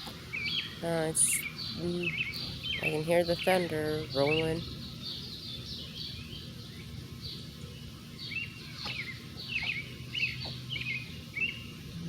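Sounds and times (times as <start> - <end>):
birds chirping: 0.0 - 12.0
low background noise: 0.0 - 12.0.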